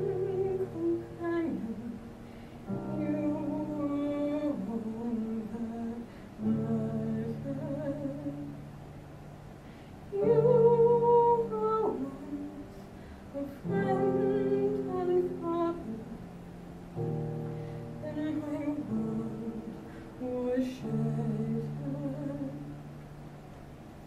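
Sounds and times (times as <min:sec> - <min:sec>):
woman singing classical solo: 0:00.0 - 0:08.8, 0:10.1 - 0:22.9
piano accompaniment: 0:00.0 - 0:24.0.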